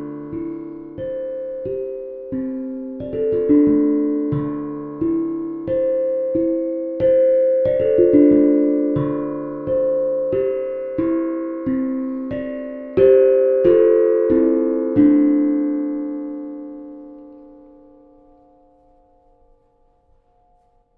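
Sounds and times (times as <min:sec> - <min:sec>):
steel tongue drum notes: 0:00.0 - 0:20.9.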